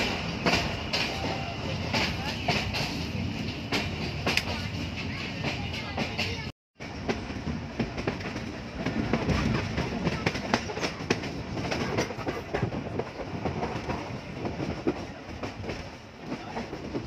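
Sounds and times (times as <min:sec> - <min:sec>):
train coach rumbling on track: 0:00.0 - 0:17.0
wheels clicking on rails: 0:00.0 - 0:17.0.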